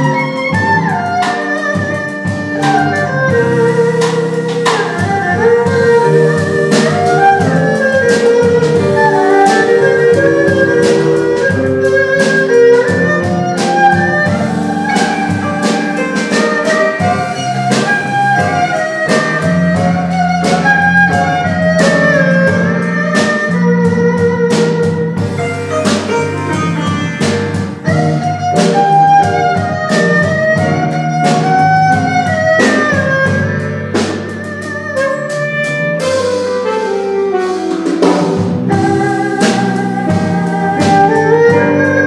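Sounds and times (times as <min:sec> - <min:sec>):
jazz-flavoured instrumental music: 0:00.0 - 0:42.0.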